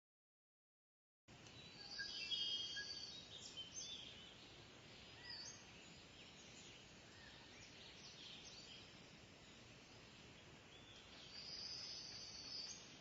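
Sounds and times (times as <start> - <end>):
faint steady hiss: 1.3 - 13.0.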